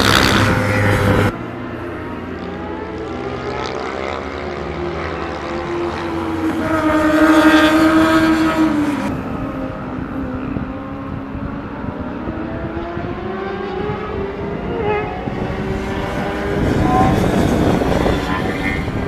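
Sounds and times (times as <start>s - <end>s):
distant race car engines: 0.0s - 19.0s
race car passing by: 0.0s - 19.0s.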